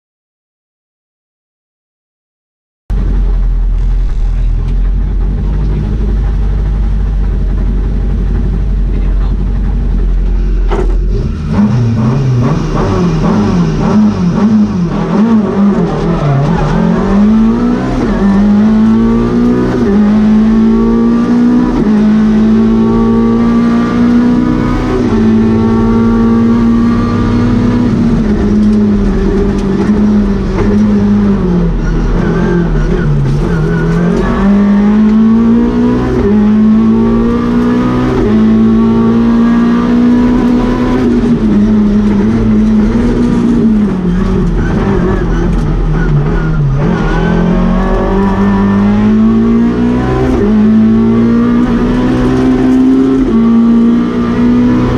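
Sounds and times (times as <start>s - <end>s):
rally car engine revving: 2.9s - 54.9s.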